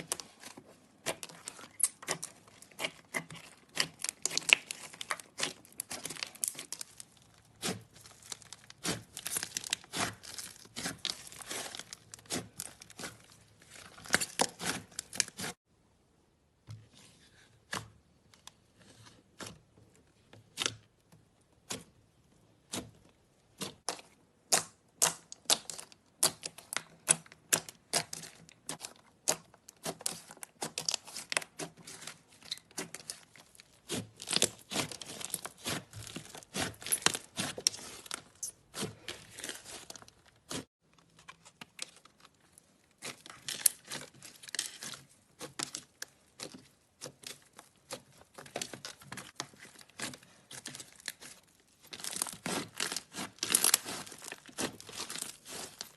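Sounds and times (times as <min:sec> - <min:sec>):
slime clicking and crackling: 0:00.0 - 0:15.6, 0:23.5 - 0:40.6, 0:41.3 - 0:55.9.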